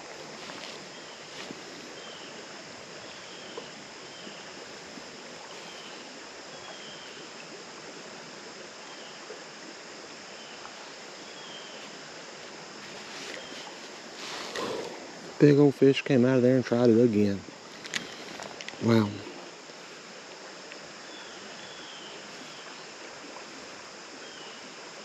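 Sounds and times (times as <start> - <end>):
creek water running: 0.0 - 25.0.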